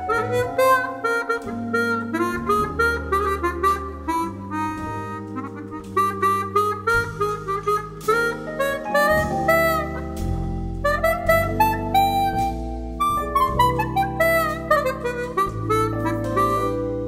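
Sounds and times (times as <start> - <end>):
electric keyboard chords: 0.0 - 17.0
harmonica melody: 0.0 - 17.0
plucked double bass: 0.0 - 17.0.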